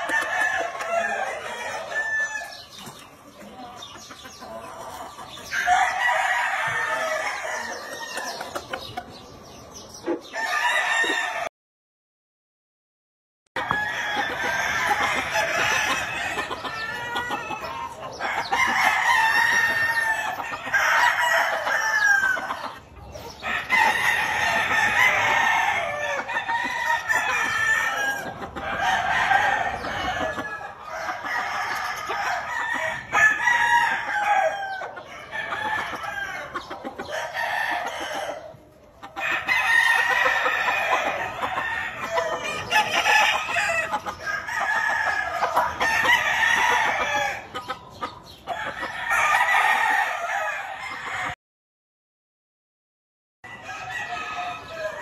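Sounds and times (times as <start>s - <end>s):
roosters crowing and clucking: 0.0s - 11.5s, 13.6s - 51.4s, 53.4s - 55.0s.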